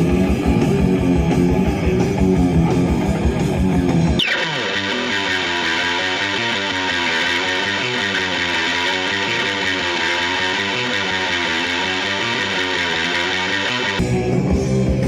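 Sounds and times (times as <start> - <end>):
distorted electric guitar riff: 0.0 - 14.1.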